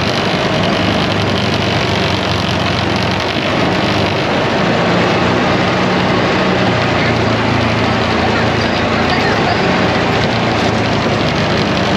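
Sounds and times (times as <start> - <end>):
atv engine hum: 0.0 - 11.9
noisy wash: 0.0 - 11.9.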